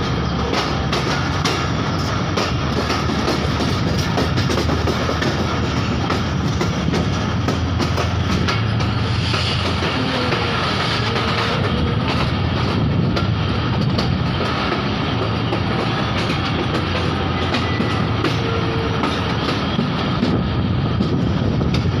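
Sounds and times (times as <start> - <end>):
train wheels rumbling: 0.0 - 22.0
wheels clicking over rail joints: 0.0 - 22.0.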